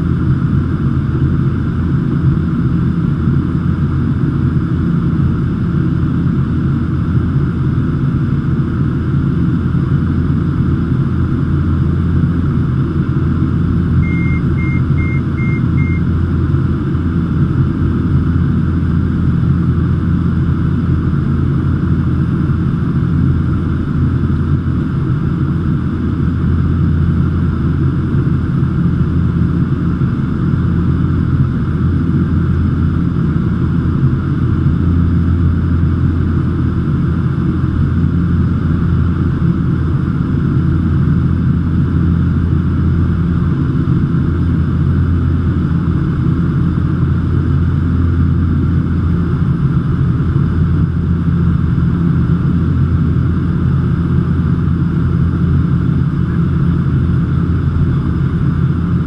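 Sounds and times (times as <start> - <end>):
turboprop engine droning in flight: 0.0 - 59.0.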